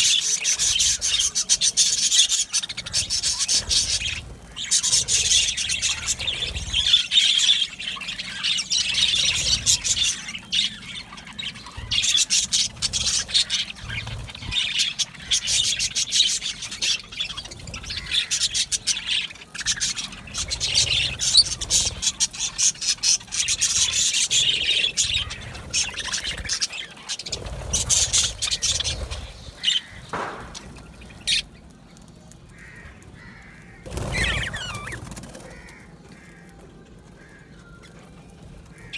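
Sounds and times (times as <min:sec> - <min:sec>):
budgerigars chattering: 0:00.0 - 0:31.5, 0:32.5 - 0:36.5.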